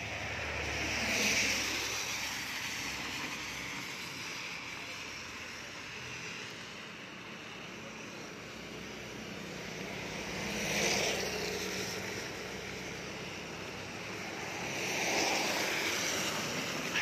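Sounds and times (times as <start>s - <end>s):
vehicle passing on wet road: 0.0s - 17.0s
wet street traffic hiss: 0.0s - 17.0s.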